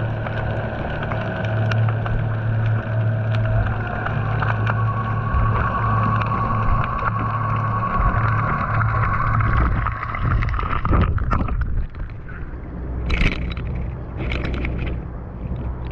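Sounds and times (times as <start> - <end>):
underwater boat motor hum: 0.0 - 15.9
water splashing and sloshing: 0.0 - 15.9.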